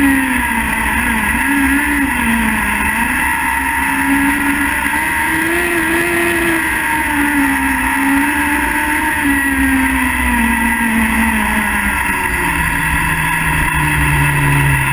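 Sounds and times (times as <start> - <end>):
constant rush of noise: 0.0 - 14.9
sidecar engine running hard: 0.0 - 14.9.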